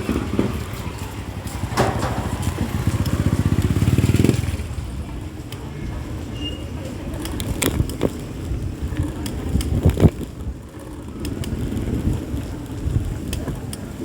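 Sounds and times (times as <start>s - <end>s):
steady rush of street noise: 0.0s - 14.0s.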